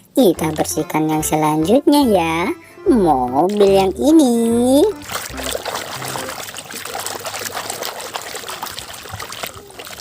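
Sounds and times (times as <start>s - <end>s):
running water splashing on plastic: 0.0s - 1.9s, 3.1s - 10.0s.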